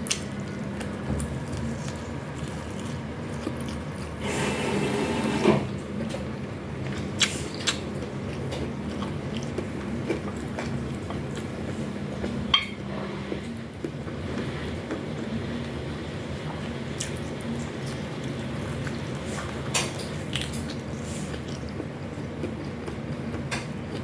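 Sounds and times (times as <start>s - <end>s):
chewing fried food: 0.0s - 4.3s, 6.5s - 12.5s, 13.6s - 24.0s.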